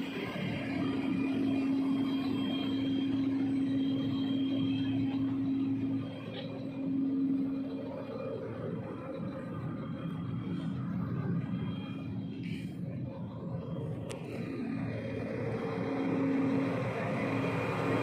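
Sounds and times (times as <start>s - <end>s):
constant hum: 0.0s - 18.0s
diesel engine idling: 0.0s - 18.0s.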